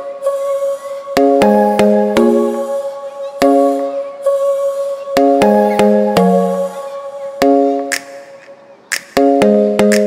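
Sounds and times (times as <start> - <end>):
instrumental music with ringing notes: 1.1 - 10.0.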